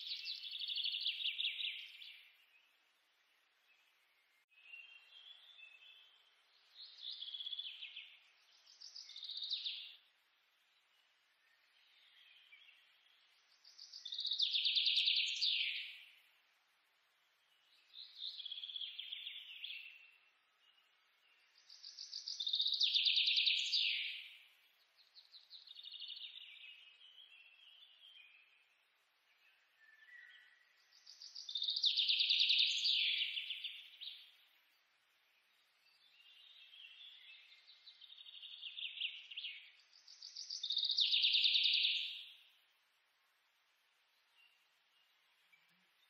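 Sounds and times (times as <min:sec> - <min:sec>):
bird singing trilled phrases: 0:00.0 - 0:02.8, 0:04.4 - 0:10.0, 0:11.4 - 0:16.3, 0:17.4 - 0:34.5, 0:35.5 - 0:42.6.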